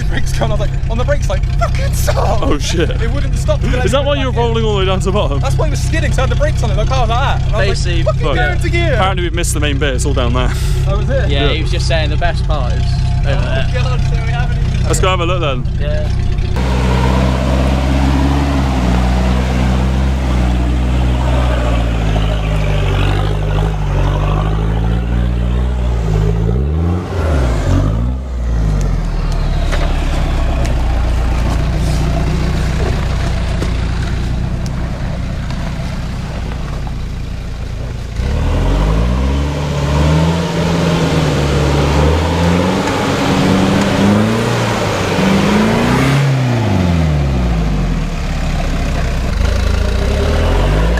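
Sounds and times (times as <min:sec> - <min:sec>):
off-road engines revving: 0:00.0 - 0:50.9.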